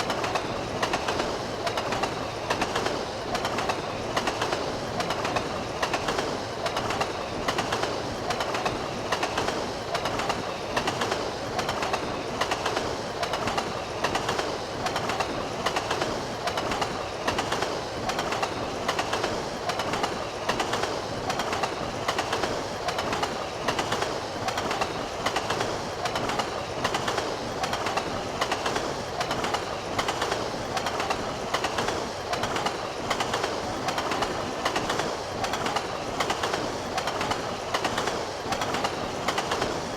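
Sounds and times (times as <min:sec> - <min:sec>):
train rolling noise: 0:00.0 - 0:39.9
train wheels clickety-clack: 0:00.0 - 0:39.9.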